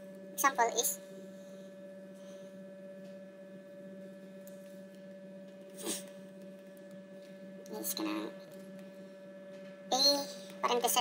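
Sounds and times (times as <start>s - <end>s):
faint high whine: 0.0s - 11.0s
low electrical hum: 0.0s - 11.0s.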